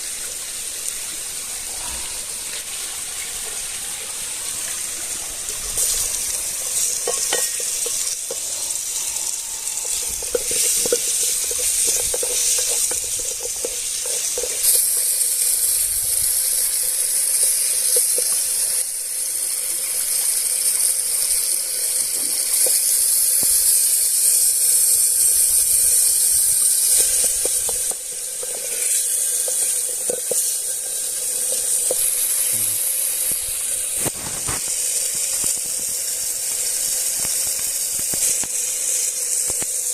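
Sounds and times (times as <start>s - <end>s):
food sizzling in frying: 0.0s - 39.9s.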